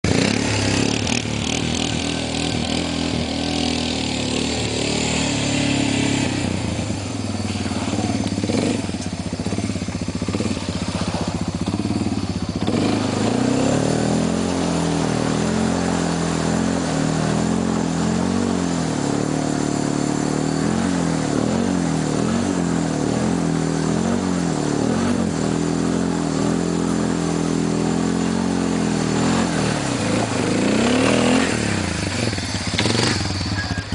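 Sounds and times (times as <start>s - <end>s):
quad bike engine revving: 0.0s - 33.9s
quad churning through mud: 0.0s - 33.9s.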